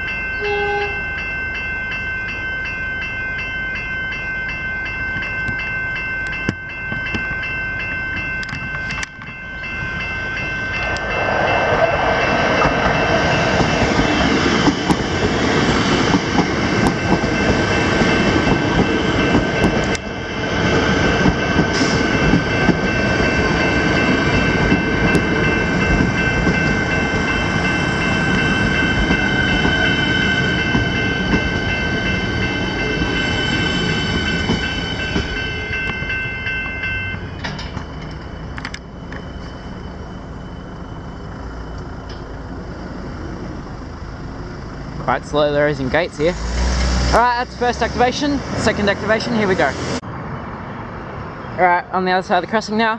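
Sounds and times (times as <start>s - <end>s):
level crossing bells ringing: 0.0s - 42.1s, 47.1s - 49.8s
train rumble: 0.0s - 52.9s.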